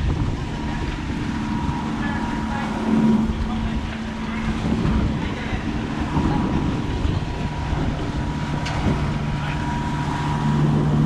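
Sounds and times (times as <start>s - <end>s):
boat engine humming: 0.0s - 11.0s
wind buffeting microphone: 0.0s - 11.0s.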